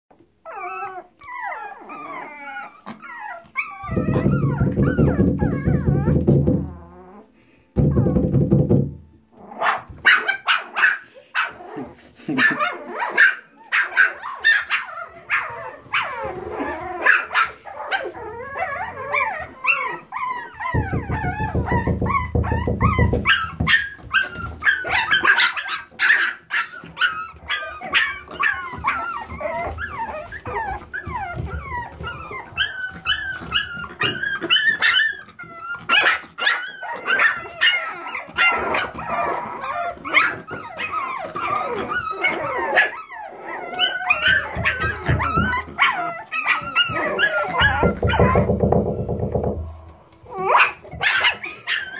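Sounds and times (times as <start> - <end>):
puppies growling and barking: 0.1 - 51.9
puppies yipping and whining: 0.1 - 51.9.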